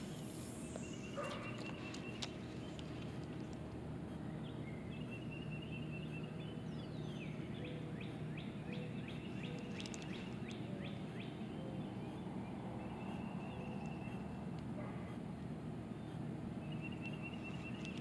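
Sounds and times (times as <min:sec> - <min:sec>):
low outdoor rumble: 0:00.0 - 0:18.0
songbirds singing: 0:00.0 - 0:18.0.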